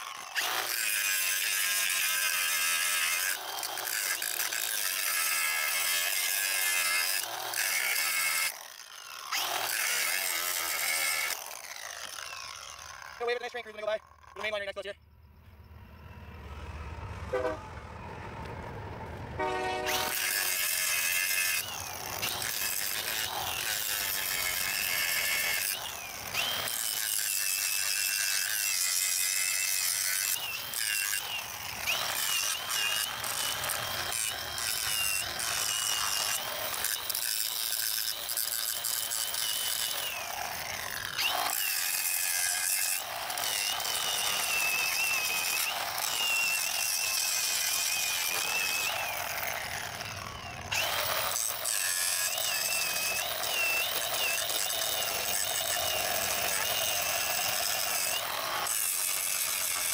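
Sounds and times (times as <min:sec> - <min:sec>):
angle grinder grinding steel: 0:00.0 - 0:15.0, 0:19.4 - 0:59.9.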